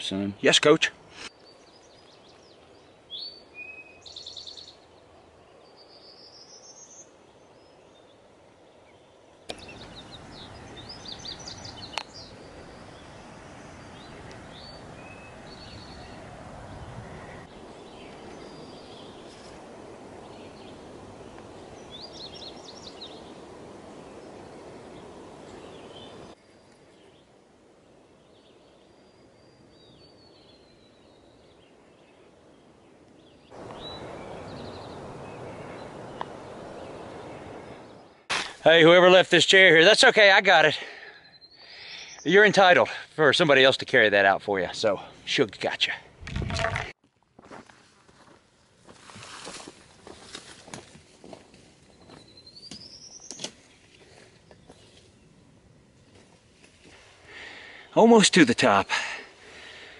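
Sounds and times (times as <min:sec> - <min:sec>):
wild birds chirping: 0:00.0 - 0:46.9, 0:48.5 - 0:59.9.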